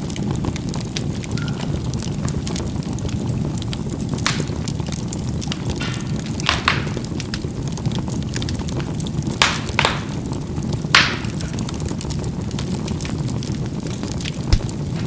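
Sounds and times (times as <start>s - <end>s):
charcoal fire crackling: 0.0s - 15.0s
charcoal popping: 0.0s - 15.0s.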